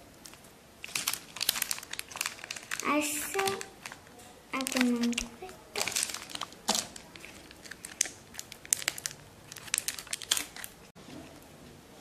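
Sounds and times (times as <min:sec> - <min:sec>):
plastic packet crinkling: 0:00.2 - 0:10.9.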